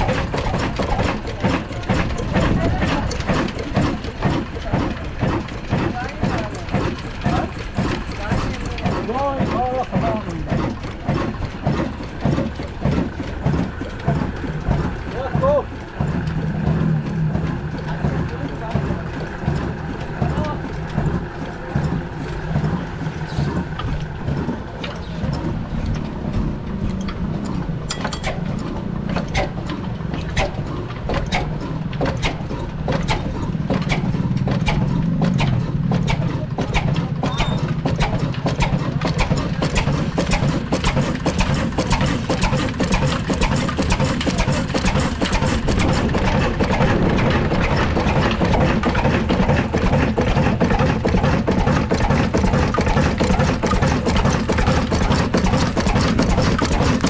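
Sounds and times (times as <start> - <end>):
diesel engine starting up: 0.0 - 57.0.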